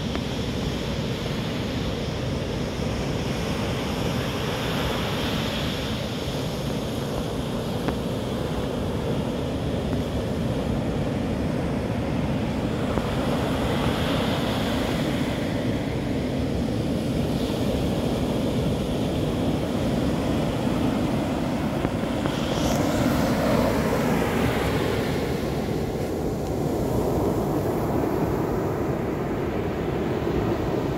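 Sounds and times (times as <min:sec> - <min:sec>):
surf breaking on a beach: 0:00.0 - 0:30.9.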